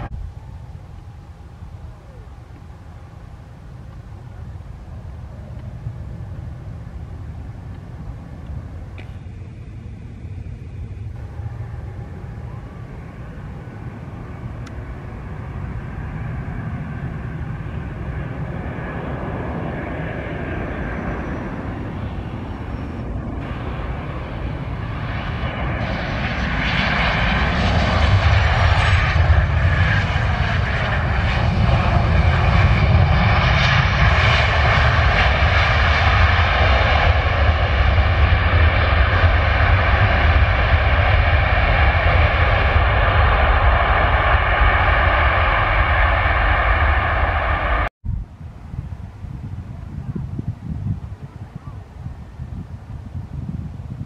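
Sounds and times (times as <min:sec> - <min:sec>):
jet engine roar with whine: 0:00.0 - 0:54.0.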